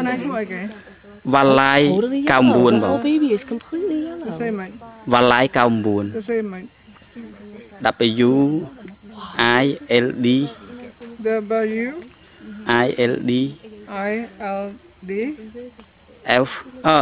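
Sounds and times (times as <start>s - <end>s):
high-pitched insect drone: 0.0s - 17.0s
people talking: 0.0s - 17.0s.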